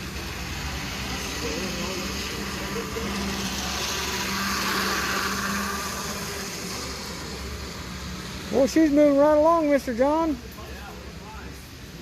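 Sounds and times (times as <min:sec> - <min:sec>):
model train whirring: 0:00.0 - 0:12.0
steady hum: 0:00.0 - 0:12.0.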